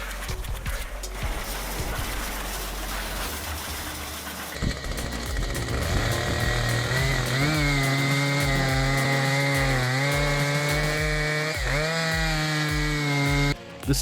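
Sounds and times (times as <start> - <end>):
chainsaw cutting wood: 1.2 - 13.6.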